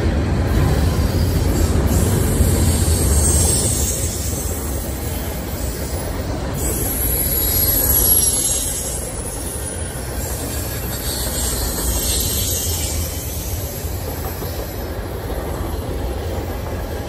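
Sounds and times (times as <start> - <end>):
train wheels rumbling on rail: 0.0 - 17.0
high wheel squeal: 0.6 - 15.9.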